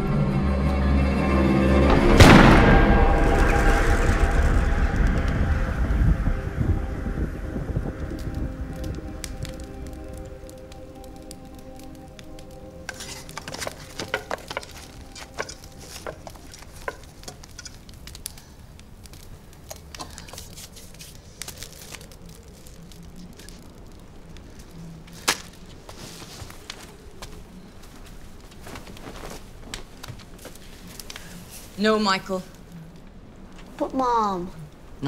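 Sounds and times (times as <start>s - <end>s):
fire crackling and sizzling: 0.0s - 35.0s.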